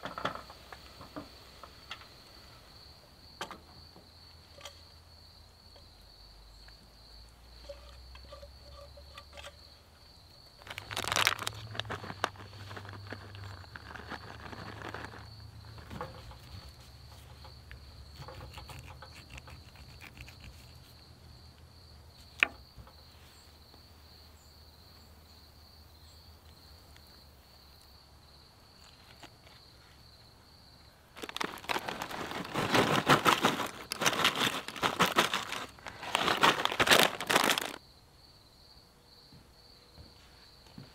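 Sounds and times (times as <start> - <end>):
high insect trill: 0.1 - 40.8.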